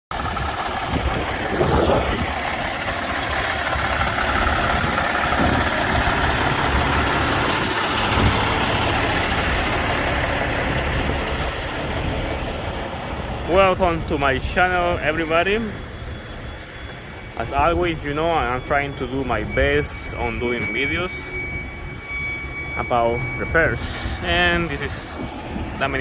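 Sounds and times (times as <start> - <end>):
diesel engine idling: 0.1 - 26.0.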